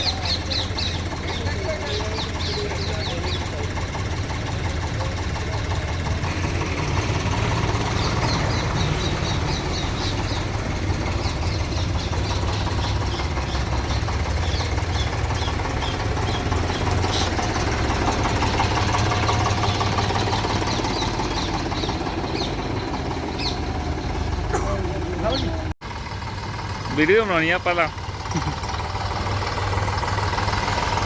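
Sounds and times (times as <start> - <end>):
diesel digger engine running: 0.0 - 31.0.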